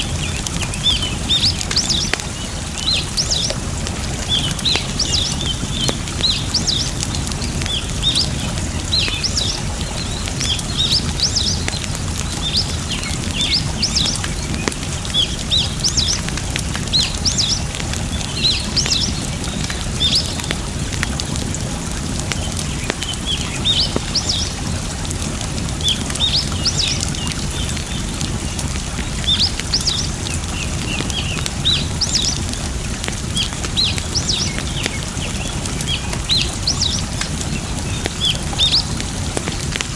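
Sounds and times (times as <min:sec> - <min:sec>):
campfire crackling: 0:00.0 - 0:39.9
rushing water: 0:00.0 - 0:39.9
small birds chirping: 0:00.0 - 0:39.9.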